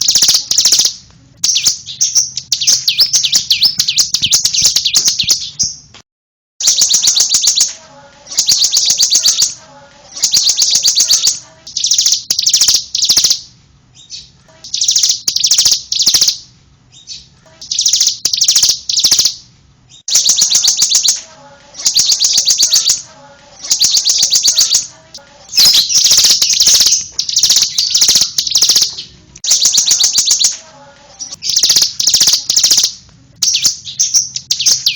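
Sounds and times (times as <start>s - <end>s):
bird singing rapid high chirps: 0.0s - 5.9s, 6.6s - 34.9s.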